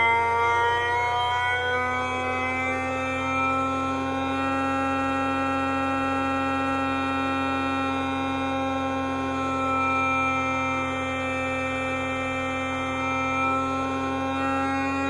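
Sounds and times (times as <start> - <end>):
electronic whining tones: 0.0 - 15.0.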